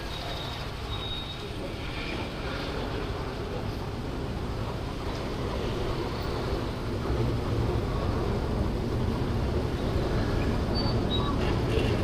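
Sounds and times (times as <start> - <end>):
scooter engine and road rumble: 0.0 - 12.0
wind: 0.0 - 12.0.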